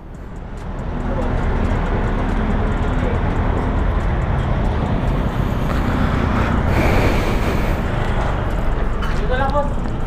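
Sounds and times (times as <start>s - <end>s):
street traffic: 0.0s - 10.0s.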